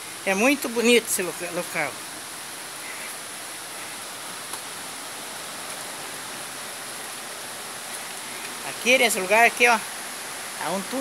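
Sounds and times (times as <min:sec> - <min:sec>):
water rushing through gorge: 0:00.0 - 0:11.0.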